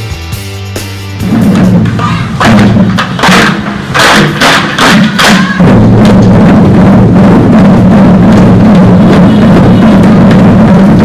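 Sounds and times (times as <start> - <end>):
wooden barrel drums: 0.0 - 11.0.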